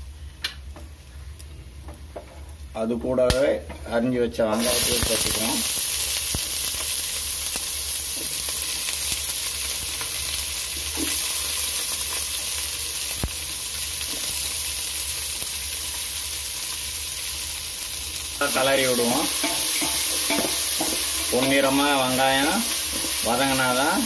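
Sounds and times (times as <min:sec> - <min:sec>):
onions sizzling in oil: 0:04.5 - 0:24.0.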